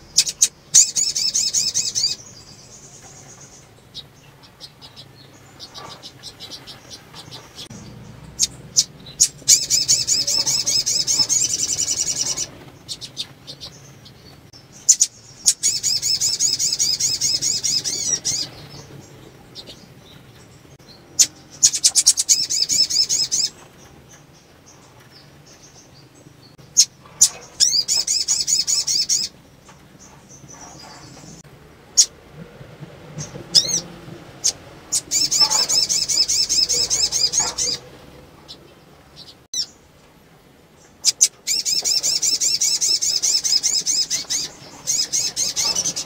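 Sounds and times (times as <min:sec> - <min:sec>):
bird warbling trills: 0:00.0 - 0:25.9, 0:26.6 - 0:29.4, 0:33.2 - 0:39.8, 0:41.0 - 0:46.0.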